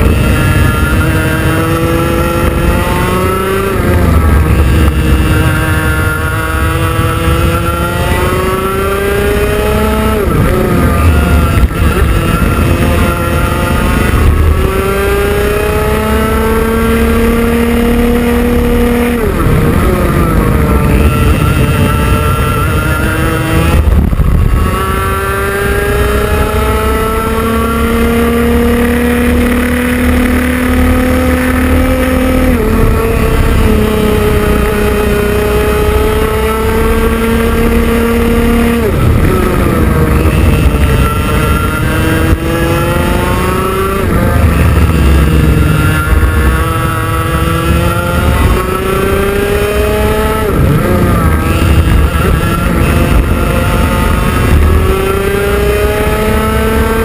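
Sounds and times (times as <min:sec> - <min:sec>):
kart engine racing: 0:00.0 - 0:57.0.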